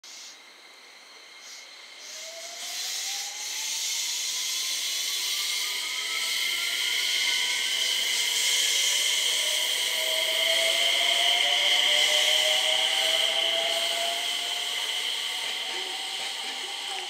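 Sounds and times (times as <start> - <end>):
train running hiss: 0.0 - 0.5, 1.3 - 17.0
train motor whine: 2.2 - 17.0.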